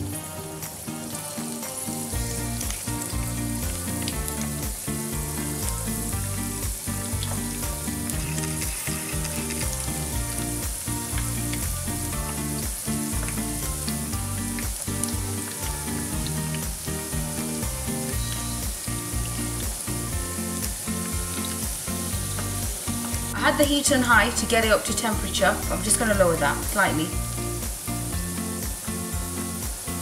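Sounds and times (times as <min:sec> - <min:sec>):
background music: 0:00.0 - 0:30.0
dumplings sizzling in hot oil: 0:00.0 - 0:30.0.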